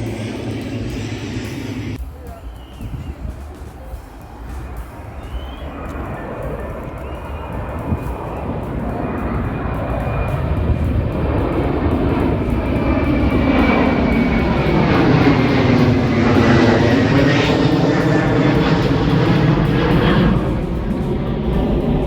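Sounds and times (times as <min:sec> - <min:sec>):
jet airliner engines passing: 0:00.0 - 0:22.0.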